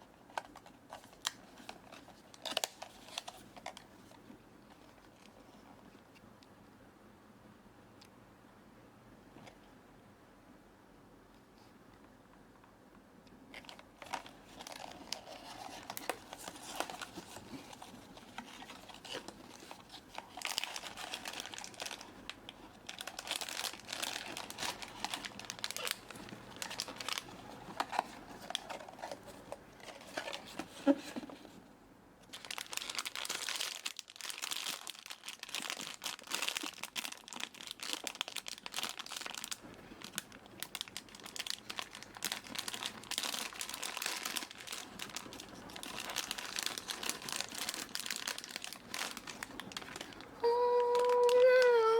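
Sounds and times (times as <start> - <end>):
packaging crinkling and tearing: 0.2 - 5.4, 13.5 - 31.5, 32.2 - 51.9.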